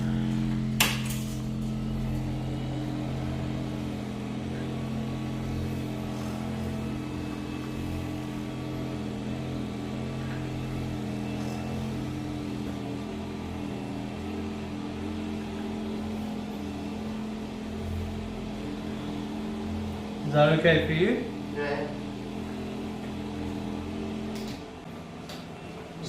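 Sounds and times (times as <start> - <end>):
massager low buzz: 0.0 - 26.0
massager motor hum: 0.0 - 26.0.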